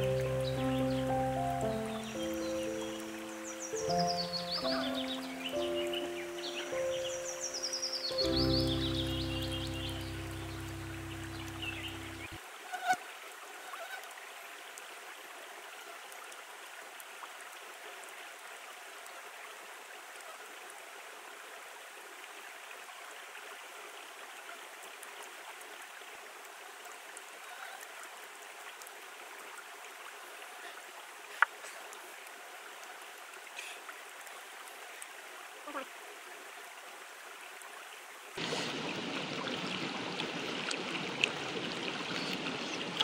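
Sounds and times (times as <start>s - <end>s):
stream flowing: 0.0s - 43.0s.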